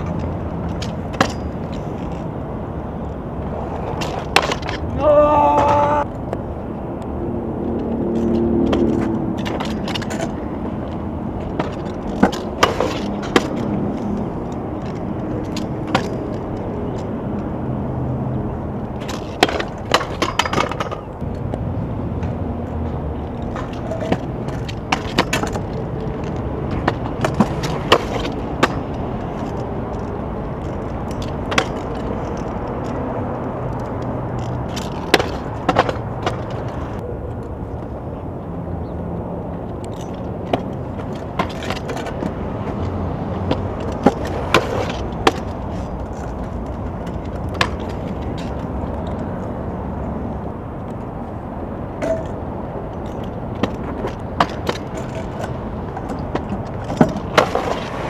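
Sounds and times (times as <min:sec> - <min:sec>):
small wheels rolling on concrete: 0:00.0 - 0:58.0.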